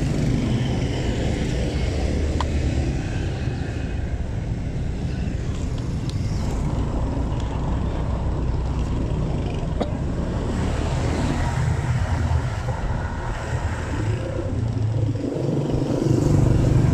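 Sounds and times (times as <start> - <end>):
motorcycles passing: 0.0 - 16.9
road and wind noise: 0.0 - 16.9.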